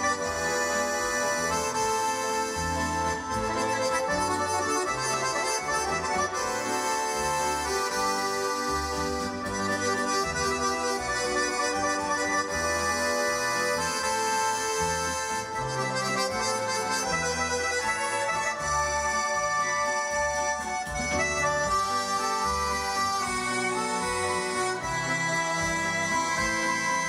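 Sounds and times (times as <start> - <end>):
accordions playing melody: 0.0 - 27.0
string orchestra: 0.0 - 27.0.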